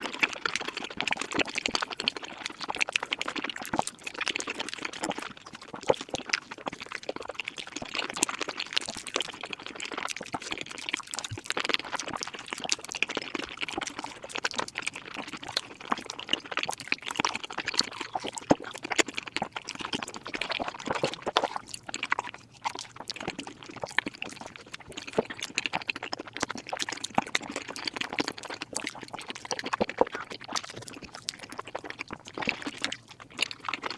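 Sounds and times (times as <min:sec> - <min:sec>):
sped-up chewing and smacking: 0:00.0 - 0:33.9.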